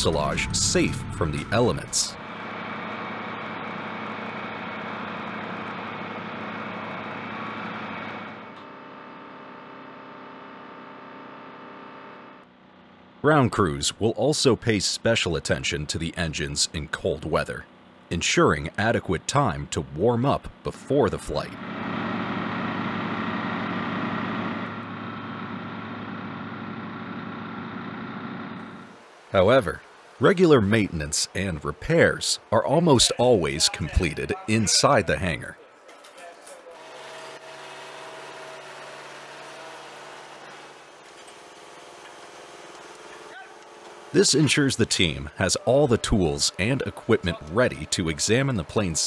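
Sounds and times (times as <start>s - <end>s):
truck engine drone: 0.0s - 9.3s, 11.5s - 35.6s, 36.8s - 49.0s.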